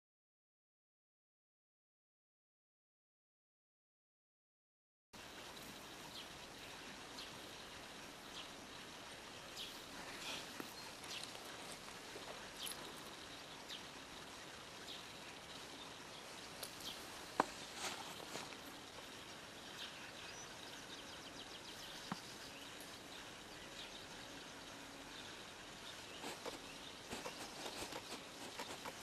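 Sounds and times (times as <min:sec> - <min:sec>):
low steady hiss: 0:05.2 - 0:29.0
small birds chirping: 0:05.2 - 0:29.0.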